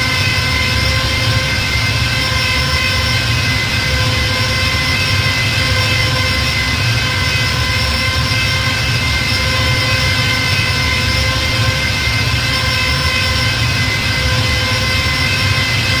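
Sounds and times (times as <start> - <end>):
high whining engine drone: 0.0 - 16.0.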